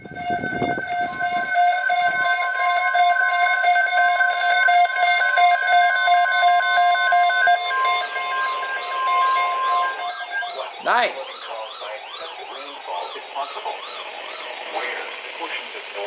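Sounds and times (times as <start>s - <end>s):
continuous tone: 0.0s - 16.0s
electronic alarm tones: 0.0s - 16.0s.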